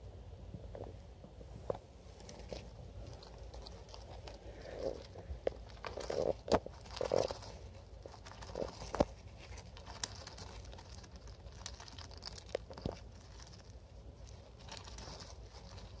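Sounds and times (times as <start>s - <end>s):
scratching: 0.6s - 16.0s
rodent rustling in wood shavings: 1.4s - 16.0s.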